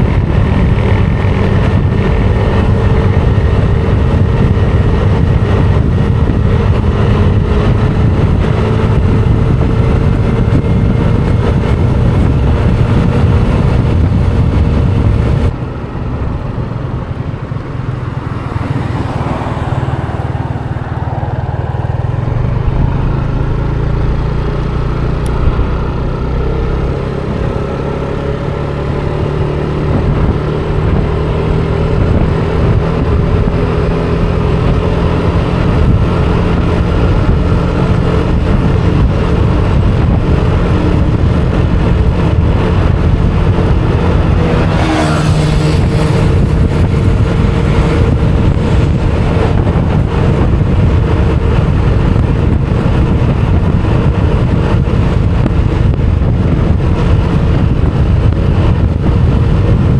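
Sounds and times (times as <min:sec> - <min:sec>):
motor scooter engine accelerating: 0:00.0 - 0:59.9.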